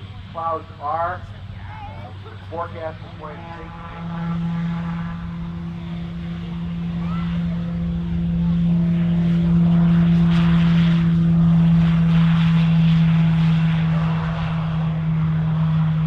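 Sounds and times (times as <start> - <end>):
turboprop aircraft propeller drone: 0.0 - 16.0.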